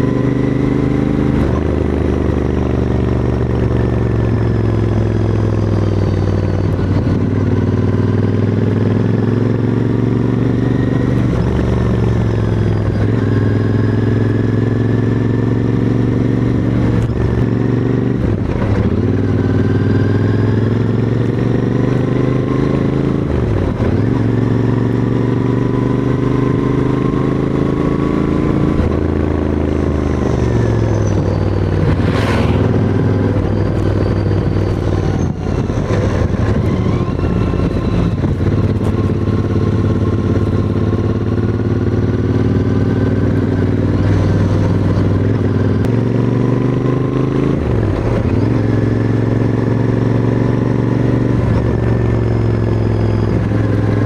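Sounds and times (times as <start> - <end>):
motorcycle engine and exhaust: 0.0 - 54.0.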